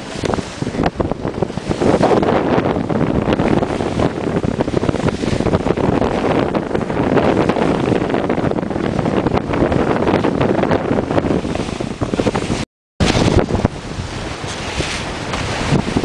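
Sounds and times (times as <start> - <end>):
water splashing along hulls: 0.0 - 16.0
wind buffeting microphone: 0.0 - 16.0.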